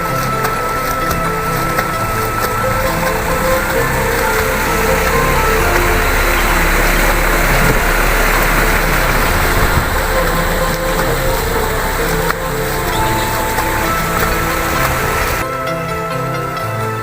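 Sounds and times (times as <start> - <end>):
rushing hiss: 0.0 - 15.4
vehicle engine running: 0.0 - 15.5
background music: 0.0 - 17.0.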